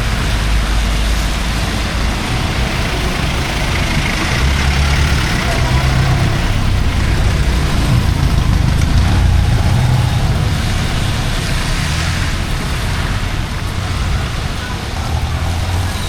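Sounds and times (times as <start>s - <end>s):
heavy rain hiss: 0.0s - 16.0s
heavy vehicle engines rumbling: 0.0s - 16.0s.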